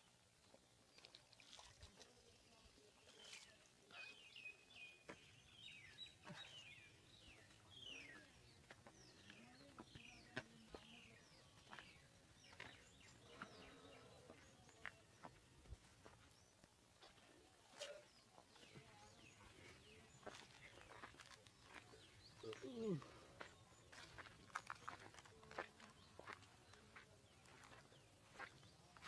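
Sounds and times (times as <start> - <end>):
faint birdsong chirps: 0.0 - 29.0.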